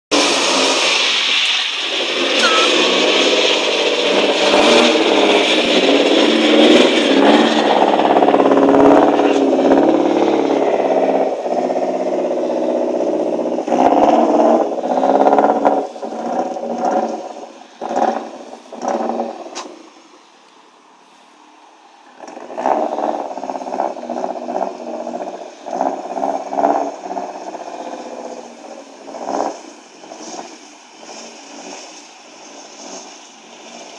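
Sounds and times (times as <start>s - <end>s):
rally car engine revving: 0.1s - 20.2s, 21.8s - 33.9s.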